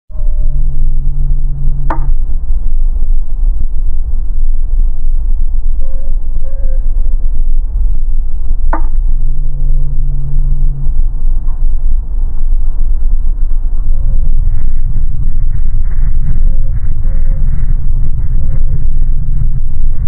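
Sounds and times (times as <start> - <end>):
short low hum: 0.1 - 20.0
underwater low rumble: 0.1 - 20.0.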